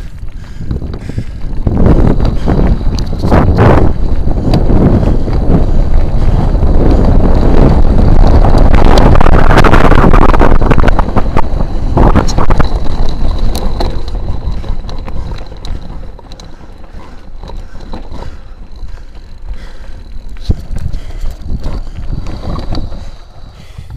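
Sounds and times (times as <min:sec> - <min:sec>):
bike clicking and rattling over stone: 0:00.0 - 0:23.9
wind buffeting microphone: 0:00.0 - 0:23.9.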